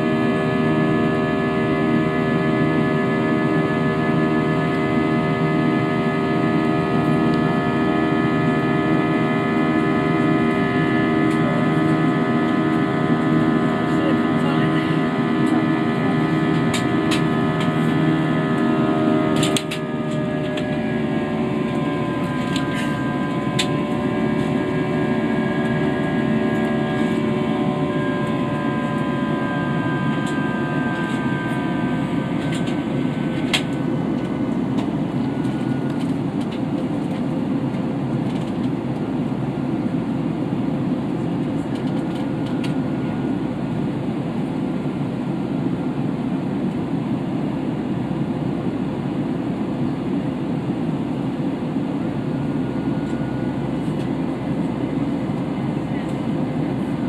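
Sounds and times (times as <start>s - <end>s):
humming tones: 0.0s - 46.1s
aircraft cabin air and engine noise: 0.0s - 57.0s.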